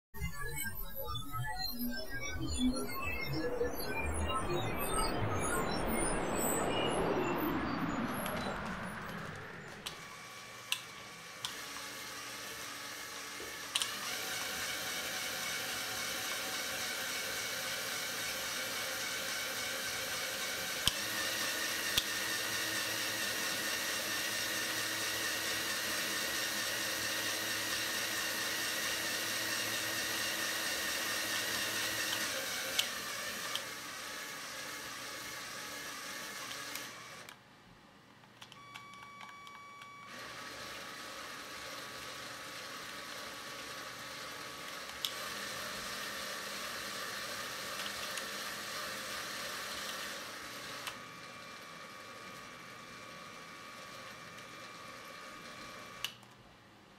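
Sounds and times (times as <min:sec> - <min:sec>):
electric motor and gears whining: 0:00.2 - 0:37.4, 0:38.4 - 0:56.2.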